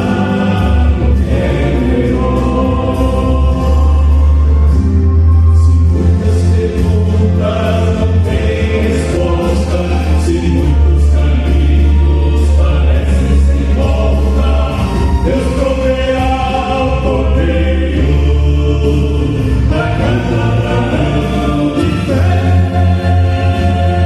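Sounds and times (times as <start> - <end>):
instrumental accompaniment with bass: 0.0 - 24.0
vocal quartet singing a hymn: 0.0 - 24.0.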